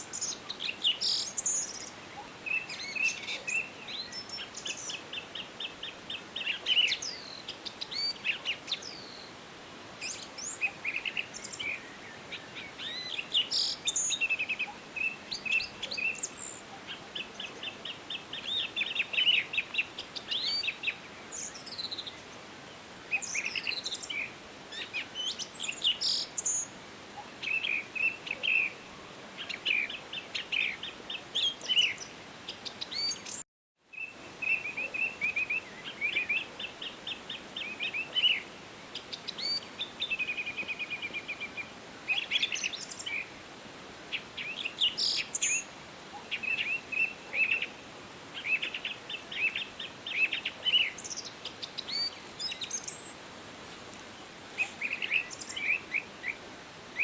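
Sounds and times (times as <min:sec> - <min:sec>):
songbirds chirping and trilling: 0:00.0 - 0:09.4, 0:10.0 - 0:57.0
faint background hiss: 0:00.0 - 0:57.0.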